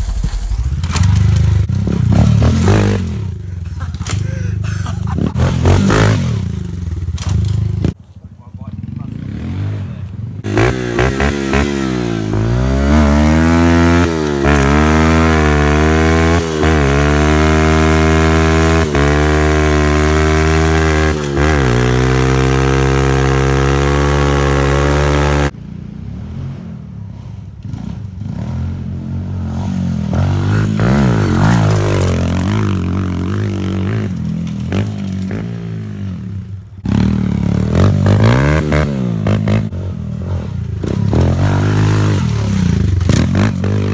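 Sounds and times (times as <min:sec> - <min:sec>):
pit bike engine revving: 0:00.8 - 0:08.0, 0:08.6 - 0:25.6, 0:26.2 - 0:43.9.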